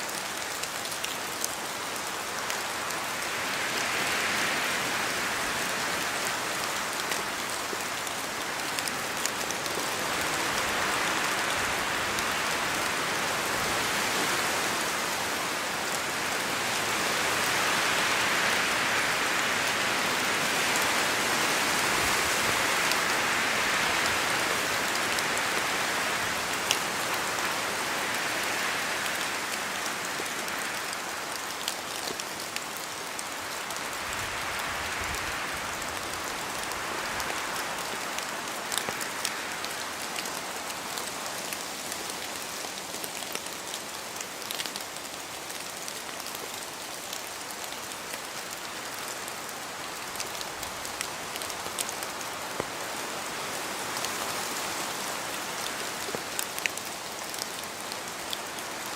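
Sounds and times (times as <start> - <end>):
steady rain in forest: 0.0 - 58.9
wind through trees: 0.0 - 58.9.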